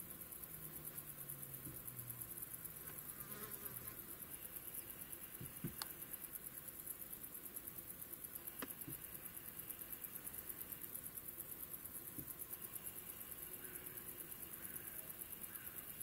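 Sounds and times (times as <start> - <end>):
faint field ambience: 0.0 - 16.0.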